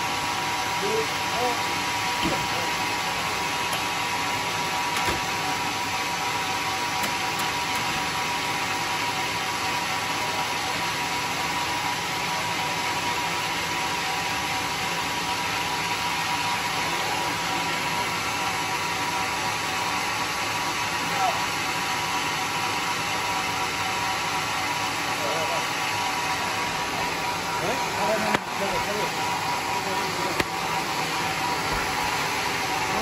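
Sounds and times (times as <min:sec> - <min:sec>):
sawmill saw whining: 0:00.0 - 0:33.0.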